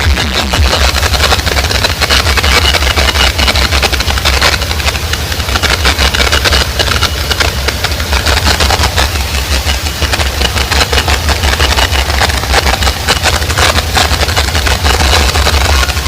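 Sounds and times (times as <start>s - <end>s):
distorted bass-heavy dance music: 0.0s - 16.0s.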